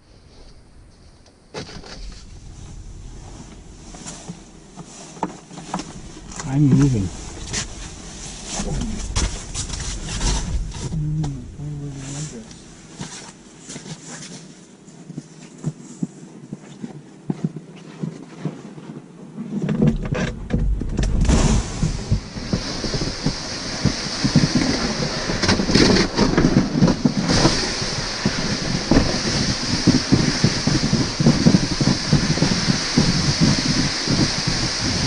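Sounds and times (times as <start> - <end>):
wind buffeting microphone: 0.0 - 13.6, 19.9 - 35.0.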